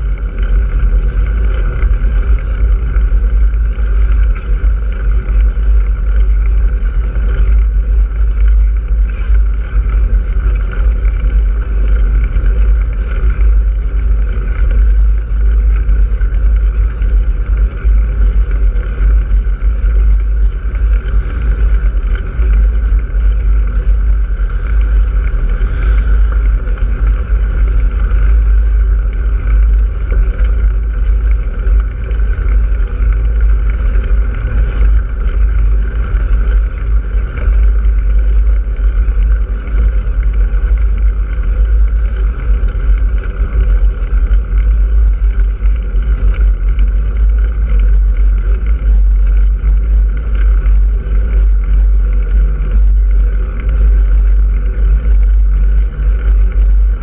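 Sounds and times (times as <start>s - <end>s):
road noise: 0.0s - 57.0s
wind rumble on microphone: 0.0s - 57.0s.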